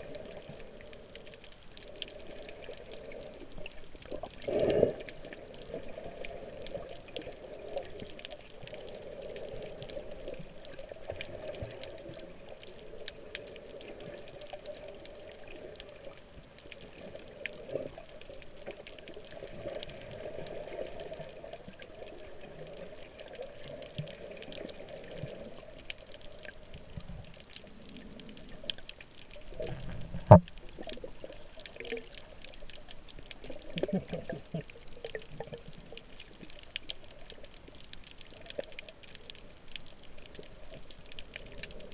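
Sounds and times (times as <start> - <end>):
faint crackling clicks: 0.0 - 41.9
muffled underwater water wash: 0.0 - 41.9.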